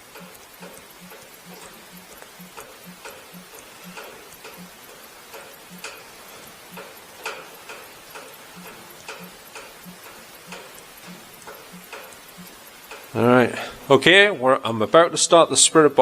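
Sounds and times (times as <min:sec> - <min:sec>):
rain dripping on roof: 0:00.0 - 0:16.0.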